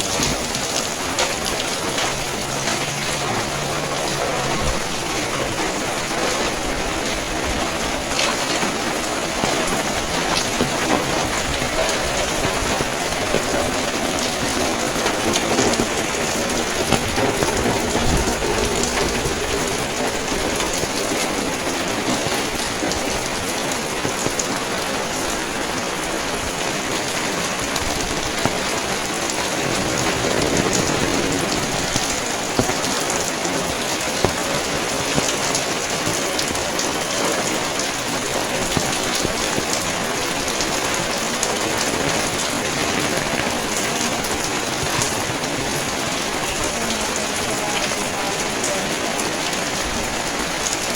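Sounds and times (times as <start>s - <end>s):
rain pattering: 0.0s - 50.9s
raindrops ticking close by: 0.0s - 50.9s.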